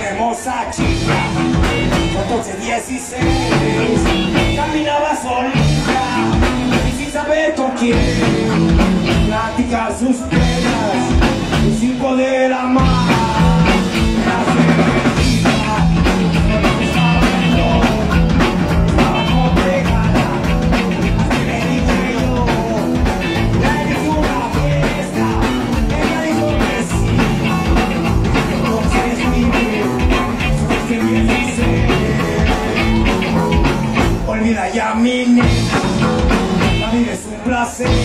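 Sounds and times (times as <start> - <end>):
bass guitar: 0.0 - 38.0
electric guitar: 0.0 - 38.0
drum kit beat: 0.7 - 12.1, 12.8 - 34.7, 35.3 - 38.0.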